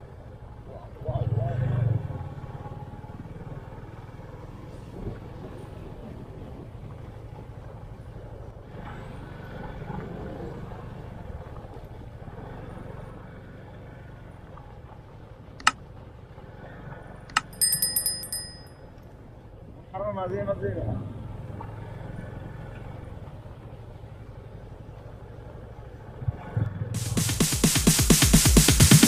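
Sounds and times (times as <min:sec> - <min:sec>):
motorcycle engine running: 0:00.0 - 0:18.7, 0:21.0 - 0:29.0
road and wind noise: 0:00.0 - 0:27.0.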